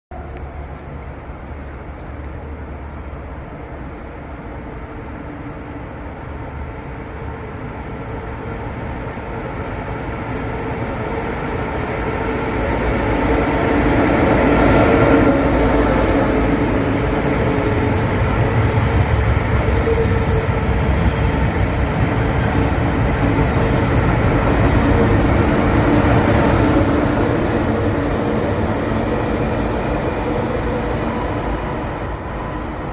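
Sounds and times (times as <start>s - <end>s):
train running on rails: 0.1s - 32.9s.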